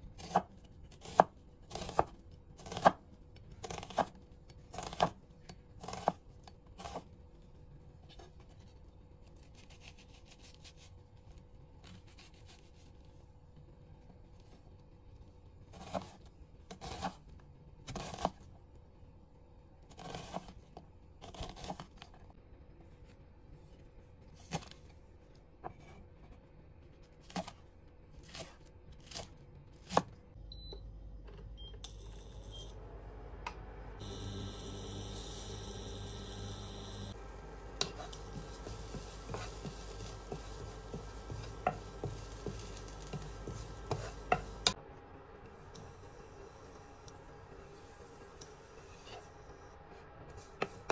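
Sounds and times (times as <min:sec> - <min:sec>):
kitchen noise with low hum: 0:00.0 - 0:50.9.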